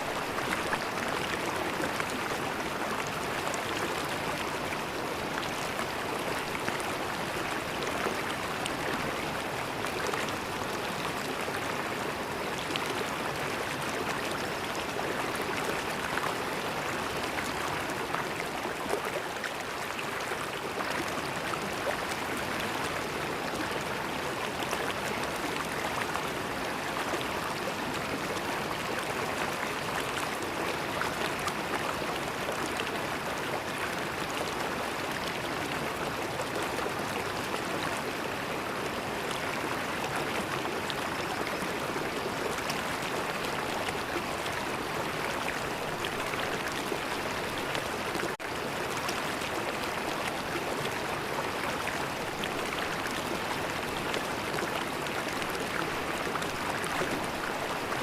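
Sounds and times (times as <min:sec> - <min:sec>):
river water babbling over stones: 0:00.0 - 0:58.0.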